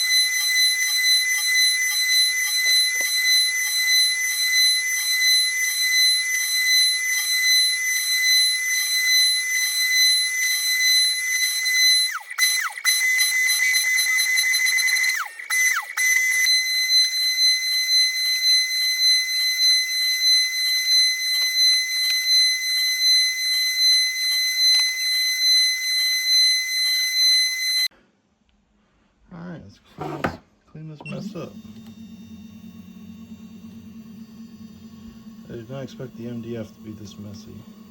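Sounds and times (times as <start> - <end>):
cnc router spindle whine: 0.0 - 27.9, 31.0 - 37.9.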